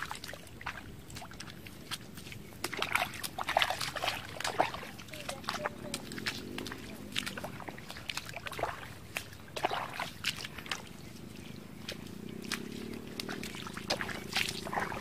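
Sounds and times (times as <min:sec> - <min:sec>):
footsteps squelching in mud and water: 0:00.0 - 0:15.0.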